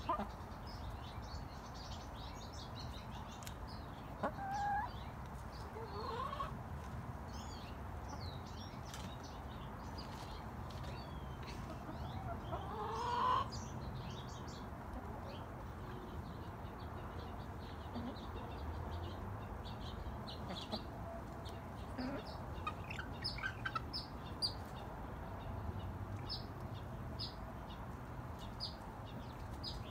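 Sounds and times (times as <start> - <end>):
young chickens clucking and chirping: 0.0 - 29.9.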